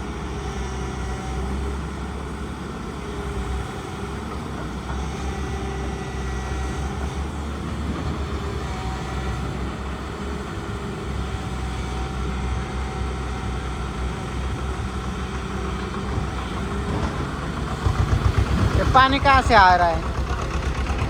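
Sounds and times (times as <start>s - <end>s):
excavator diesel engine rumbling: 0.0s - 21.0s.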